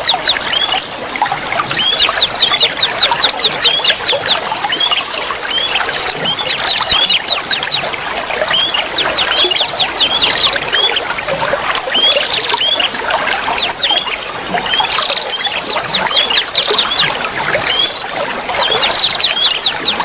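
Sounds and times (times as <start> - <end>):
running water: 0.0 - 20.0
songbirds chirping: 0.0 - 20.0.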